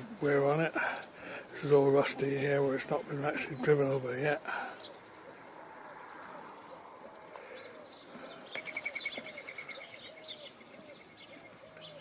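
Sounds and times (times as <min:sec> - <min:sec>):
bird cooing: 0:02.0 - 0:12.0.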